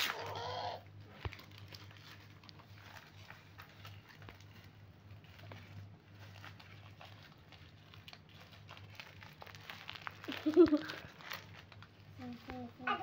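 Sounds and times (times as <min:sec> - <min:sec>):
low steady hum: 0:00.0 - 0:13.0
plastic wrapping crinkling: 0:00.0 - 0:13.0.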